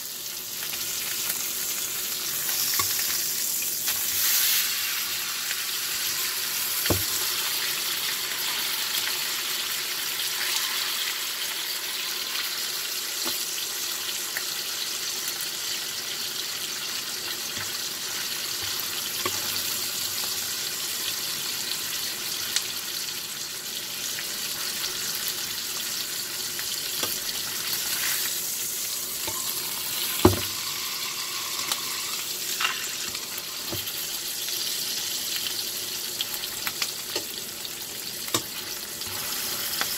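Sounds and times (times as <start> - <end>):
steak sizzling in skillet: 0.0 - 39.9.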